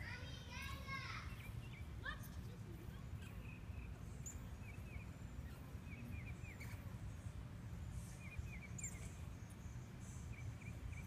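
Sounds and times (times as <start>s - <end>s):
faint high chirps: 0.0s - 11.0s.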